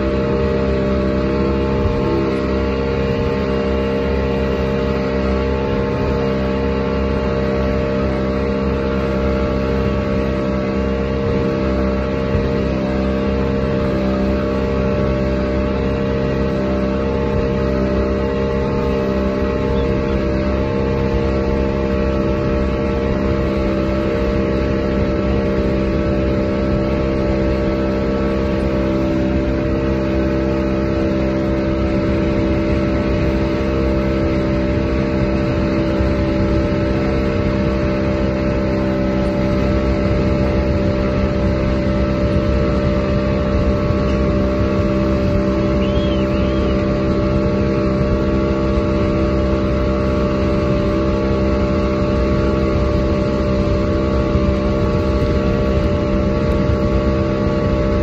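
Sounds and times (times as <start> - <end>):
outboard motor running: 0.0 - 58.0
rush of churning wake: 0.0 - 58.0.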